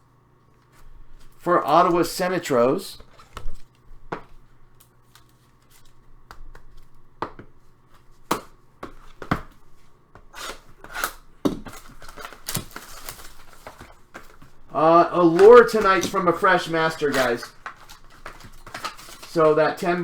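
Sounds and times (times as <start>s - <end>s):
cards rustling: 0.5s - 8.1s, 8.8s - 20.0s
cards tapping and clicking: 3.0s - 20.0s.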